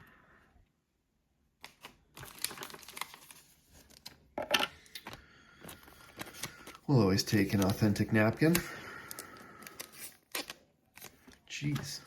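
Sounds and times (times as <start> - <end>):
cards and packaging crinkling: 1.6 - 12.0.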